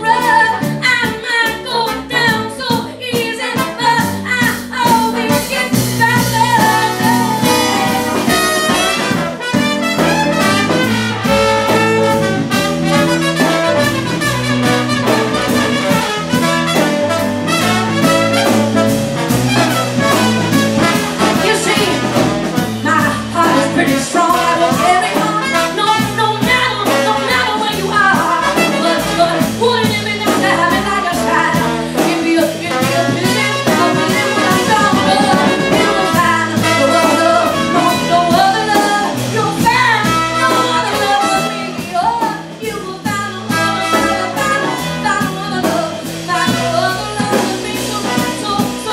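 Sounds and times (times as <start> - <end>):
drums: 0.0 - 48.9
plucked upright bass: 0.0 - 48.9
trombone: 0.0 - 48.9
trumpet: 0.0 - 48.9.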